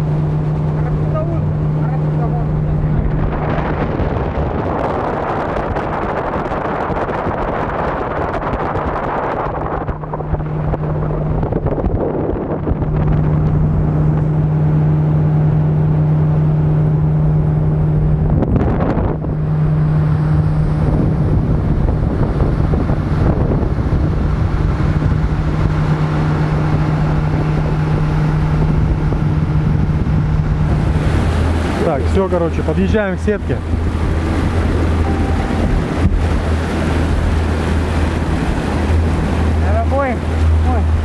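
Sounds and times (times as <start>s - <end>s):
outboard motor running: 0.0s - 41.0s
water rushing past hull: 0.0s - 41.0s
wind buffeting microphone: 0.0s - 41.0s.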